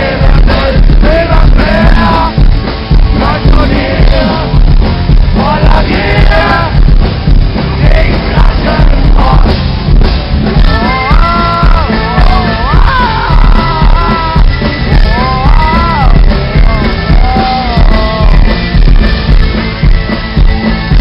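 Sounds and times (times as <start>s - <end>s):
man singing: 0.0s - 6.9s, 7.7s - 9.6s, 10.6s - 18.8s
metal band playing loud: 0.0s - 21.0s.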